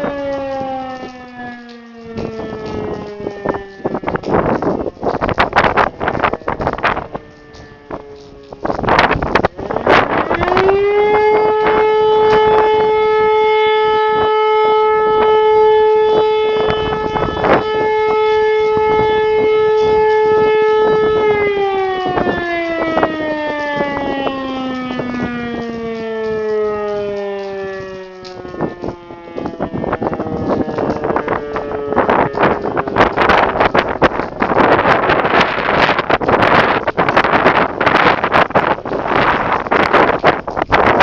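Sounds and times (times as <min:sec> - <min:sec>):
electric motor siren wailing: 0:00.0 - 0:41.0
wind buffeting microphone: 0:00.0 - 0:41.0.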